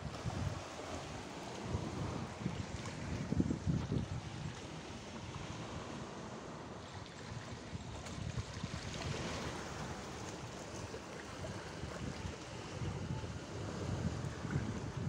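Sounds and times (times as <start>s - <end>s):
waves lapping on rocks: 0.0s - 15.0s
wind rumbling on microphone: 0.0s - 15.0s.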